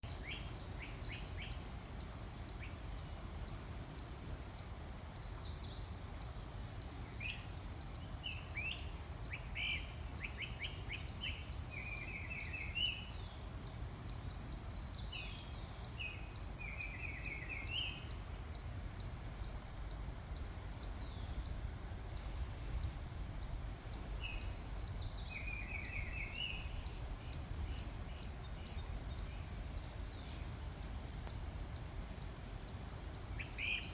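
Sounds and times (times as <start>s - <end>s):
bird chirping: 0.0s - 33.9s
bird song with lower trill: 0.0s - 33.9s.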